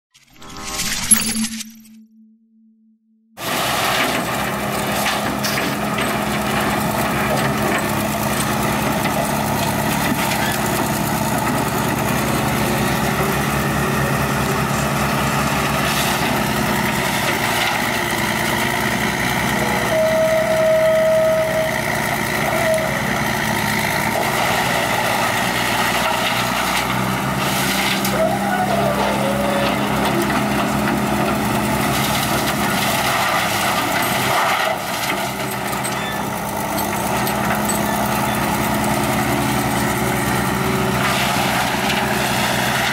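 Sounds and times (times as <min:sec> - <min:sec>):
heavy machinery and grinding: 0:03.4 - 0:42.9.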